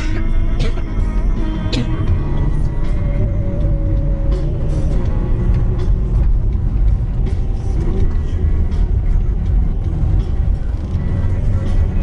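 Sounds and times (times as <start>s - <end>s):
car interior engine and road noise: 0.0s - 12.0s.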